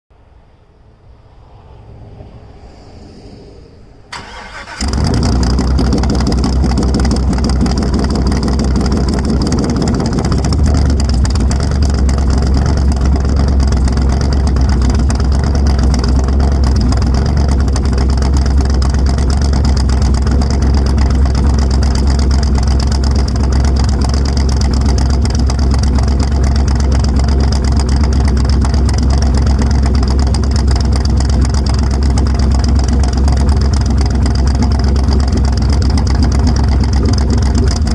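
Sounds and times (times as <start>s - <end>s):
loud engine idling: 4.1s - 37.9s.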